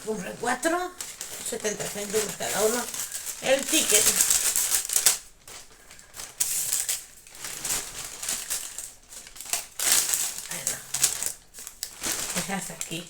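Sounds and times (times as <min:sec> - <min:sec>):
paper and plastic crinkling: 0:00.0 - 0:13.0.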